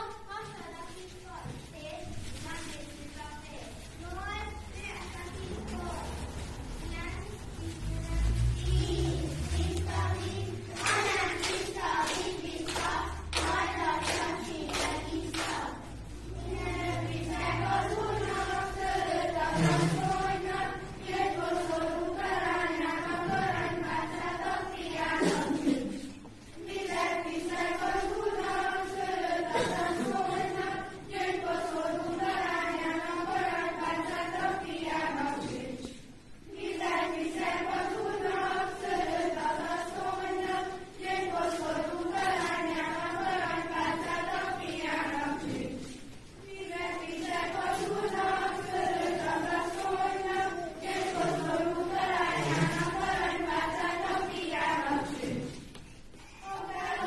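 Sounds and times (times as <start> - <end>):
young voices singing together: 0.0 - 57.0.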